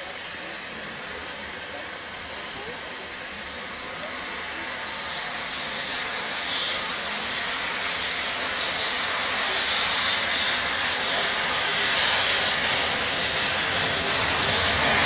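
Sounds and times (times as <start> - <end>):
steam hissing: 0.0 - 15.0
steam locomotive moving off: 0.0 - 15.0.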